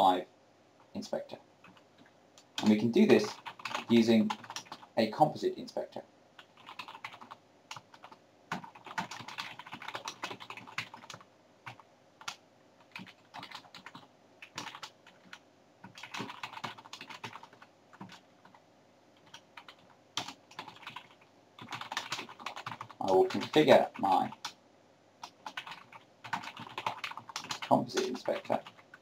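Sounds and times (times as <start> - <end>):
typing on a computer keyboard: 1.6 - 4.9, 6.4 - 18.6, 19.2 - 24.6, 25.2 - 29.0.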